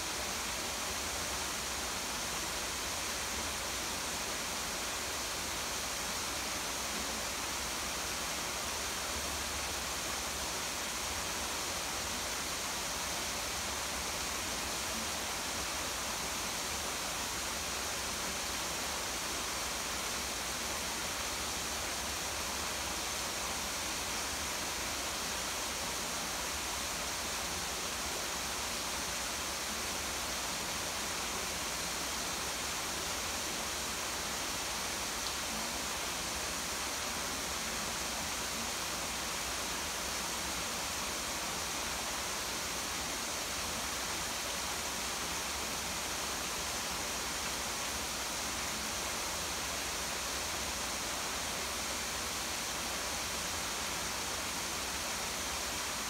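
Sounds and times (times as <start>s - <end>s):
falling rain: 0.0s - 56.0s
small waterfall: 0.0s - 56.0s.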